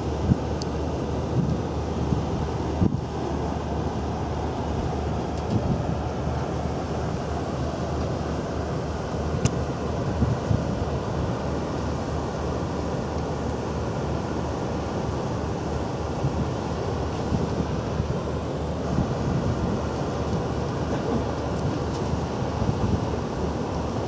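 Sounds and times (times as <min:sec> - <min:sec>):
boat running noise: 0:00.0 - 0:24.0
wind rushing over microphone: 0:00.0 - 0:24.0.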